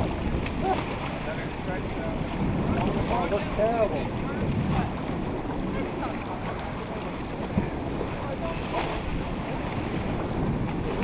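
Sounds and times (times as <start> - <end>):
water rushing along a hull: 0.0 - 11.0
wind buffeting microphone: 0.0 - 11.0.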